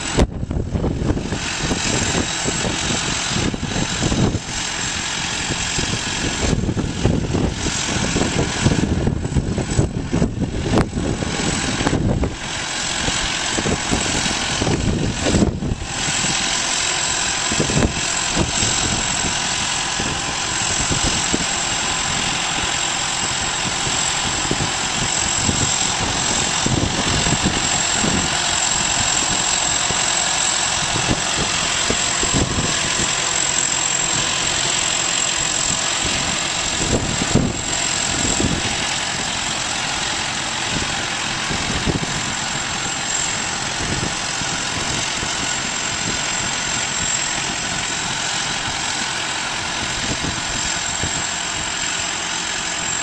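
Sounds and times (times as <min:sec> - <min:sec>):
heavy farm machinery running: 0:00.0 - 0:53.0
high-pitched whine: 0:00.0 - 0:53.0.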